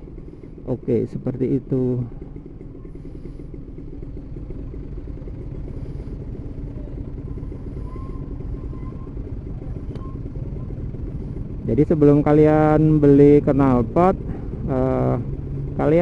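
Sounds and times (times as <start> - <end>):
motorcycle engine: 0.0 - 16.0.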